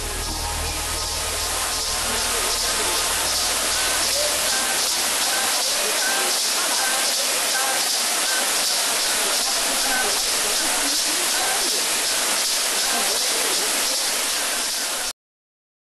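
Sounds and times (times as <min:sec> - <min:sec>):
waterfall rushing into pool: 0:00.0 - 0:15.1.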